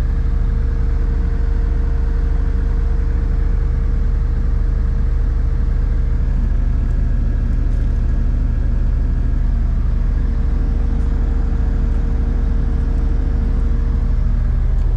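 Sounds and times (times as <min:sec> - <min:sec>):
diesel engine rumbling: 0:00.0 - 0:14.9.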